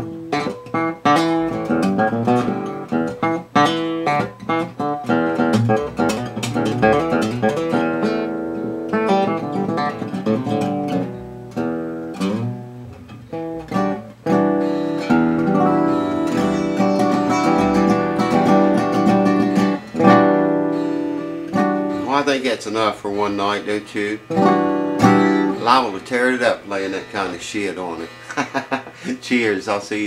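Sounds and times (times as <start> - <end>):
acoustic guitar notes and chords: 0.0 - 29.2.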